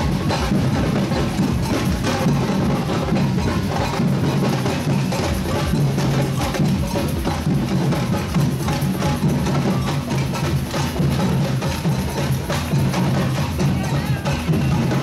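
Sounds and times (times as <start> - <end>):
percussion band playing drums: 0.0 - 15.0.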